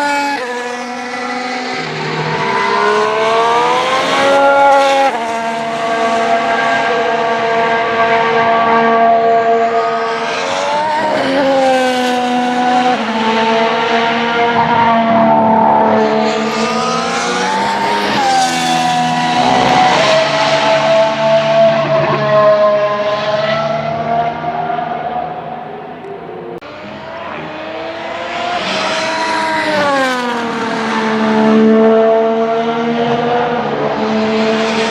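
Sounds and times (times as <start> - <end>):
racing car engines passing: 0.0 - 34.9.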